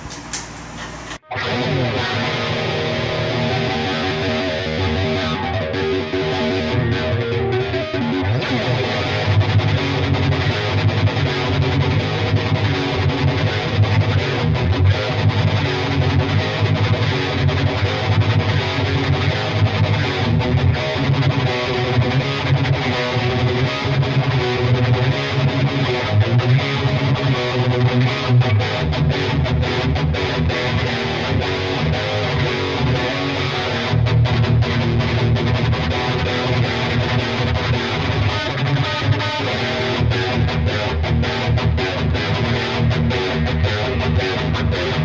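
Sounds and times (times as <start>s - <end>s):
distorted electric guitar riffing: 0.0s - 45.0s.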